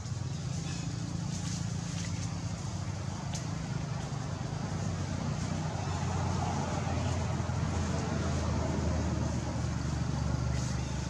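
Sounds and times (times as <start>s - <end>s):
distant engine rumble: 0.0s - 11.0s.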